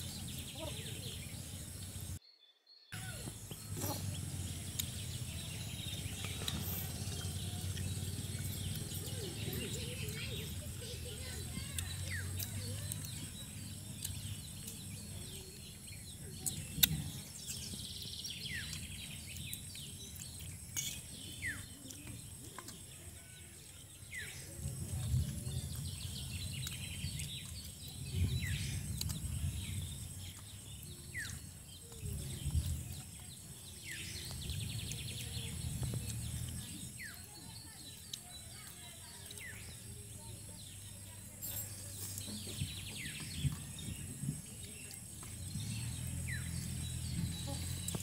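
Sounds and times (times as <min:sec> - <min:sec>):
birds chattering trills: 0:00.0 - 0:02.2, 0:02.9 - 0:48.0.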